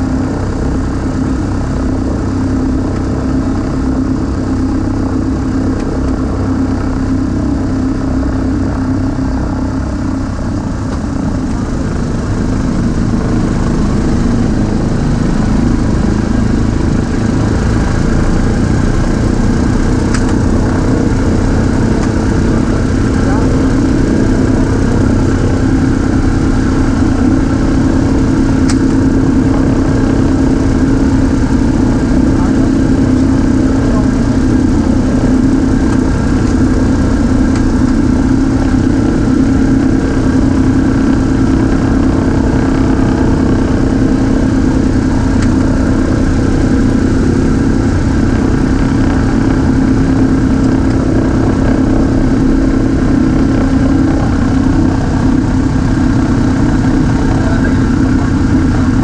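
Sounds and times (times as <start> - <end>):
radial aircraft engines droning: 0.0 - 59.0.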